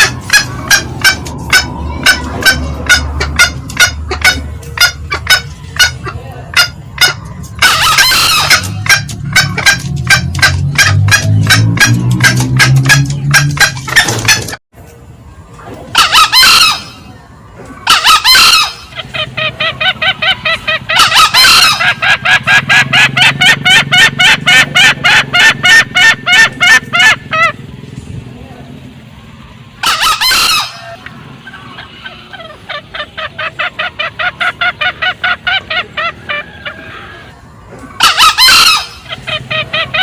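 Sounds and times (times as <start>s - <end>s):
fast repeated cackling: 0.0s - 14.6s, 16.0s - 17.1s, 17.9s - 27.6s, 29.8s - 37.3s, 38.0s - 40.0s
junglefowl crowing: 0.0s - 14.6s, 15.9s - 17.1s, 17.7s - 27.6s, 29.8s - 40.0s.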